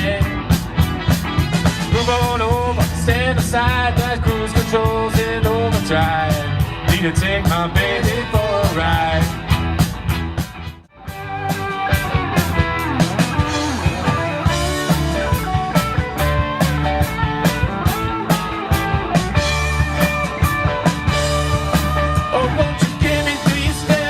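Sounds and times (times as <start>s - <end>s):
bass guitar: 0.0s - 24.0s
electric guitar lead: 0.0s - 24.0s
steady drum beat: 0.0s - 24.0s.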